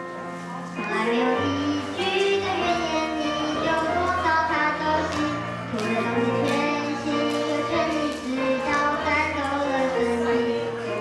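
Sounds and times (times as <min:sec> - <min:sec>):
young female voice singing: 0:00.8 - 0:11.0.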